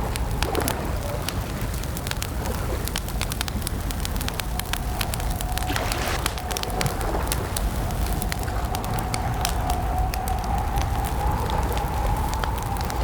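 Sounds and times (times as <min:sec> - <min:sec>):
campfire crackling: 0:00.0 - 0:13.0
low rumble of burning wood: 0:00.0 - 0:13.0.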